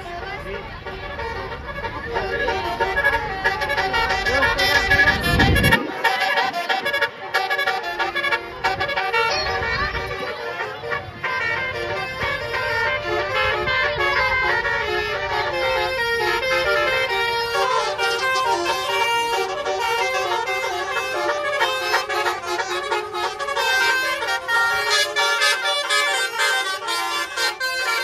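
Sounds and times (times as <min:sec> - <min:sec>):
musical air horn melody: 0:00.0 - 0:28.0.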